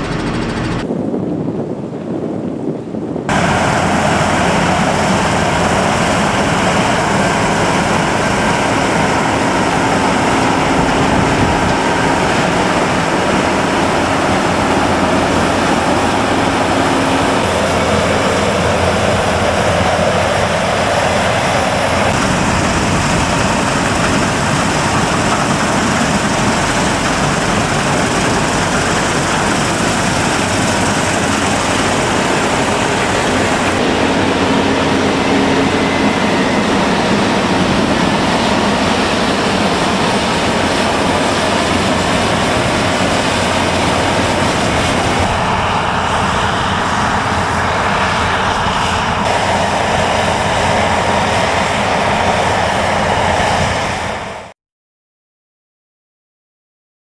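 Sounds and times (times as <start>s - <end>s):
tractor working: 0.0s - 0.9s, 3.2s - 54.5s
combine harvester running: 0.0s - 2.2s, 3.0s - 54.5s.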